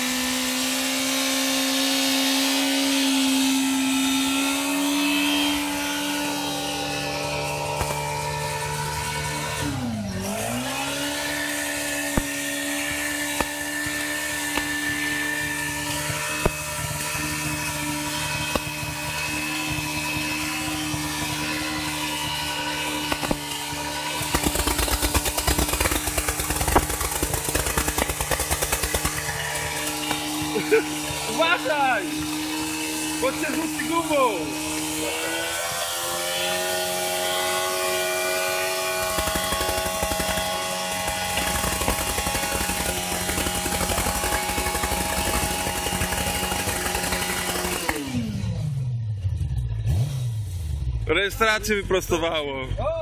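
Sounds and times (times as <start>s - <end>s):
motorcycle engine at high revs: 0.0s - 52.8s
tyre spinning on pavement: 1.1s - 48.4s.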